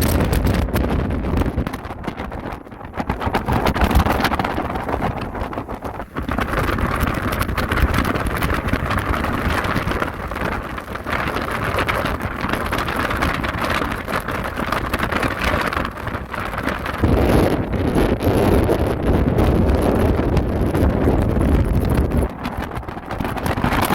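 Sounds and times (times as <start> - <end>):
heavy surf breaking: 0.0 - 23.9
wind buffeting microphone: 0.0 - 23.9.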